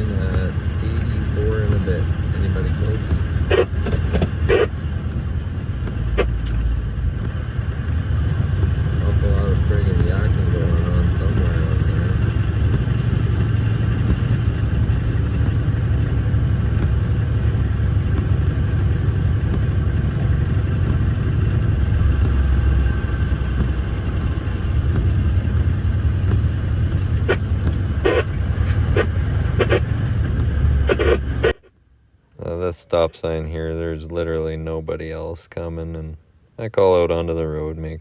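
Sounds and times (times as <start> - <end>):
truck diesel engine rumble: 0.0 - 31.7.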